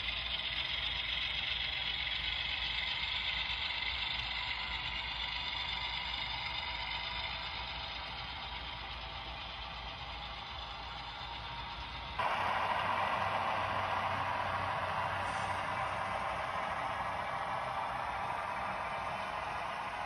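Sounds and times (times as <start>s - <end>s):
model train wheels rattling on rail: 0.0s - 20.0s.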